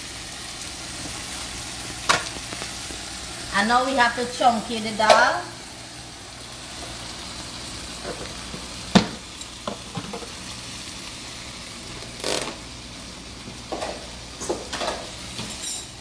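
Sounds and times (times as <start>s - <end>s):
shrimp sizzling in oil: 0.0s - 16.0s.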